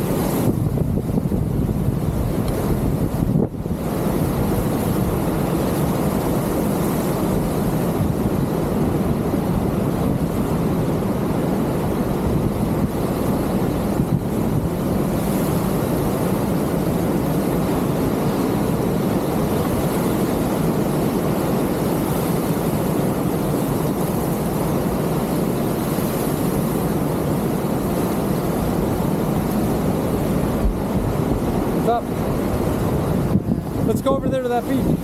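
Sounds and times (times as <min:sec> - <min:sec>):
ocean surf on beach: 0:00.0 - 0:35.0
wind buffeting microphone: 0:00.0 - 0:35.0.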